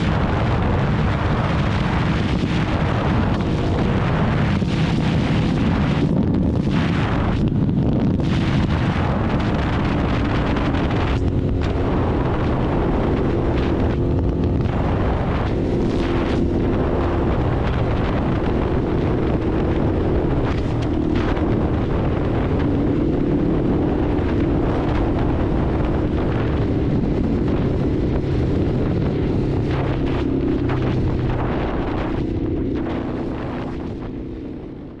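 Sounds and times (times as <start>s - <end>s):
motorcycle engine revving: 0.0s - 35.0s
wind rushing on microphone: 0.0s - 35.0s.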